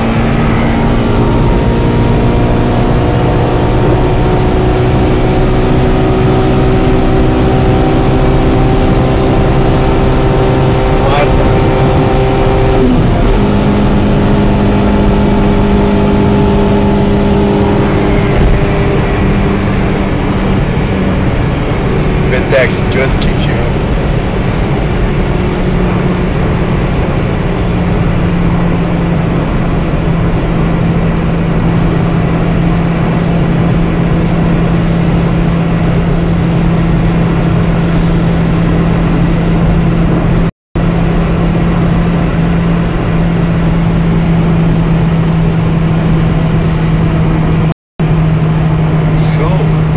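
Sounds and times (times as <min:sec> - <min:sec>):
car engine droning at high revs: 0:00.0 - 0:49.9
wind and road noise: 0:00.0 - 0:49.9.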